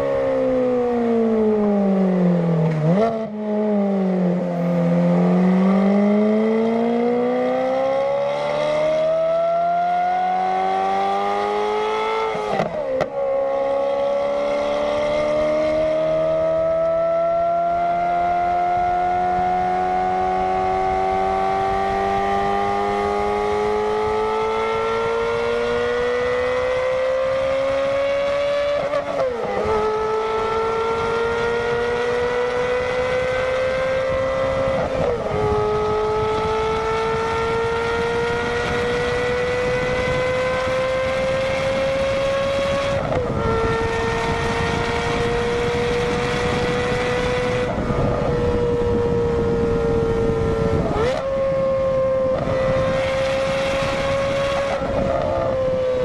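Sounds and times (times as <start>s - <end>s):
sports car engine howling: 0.0s - 56.0s.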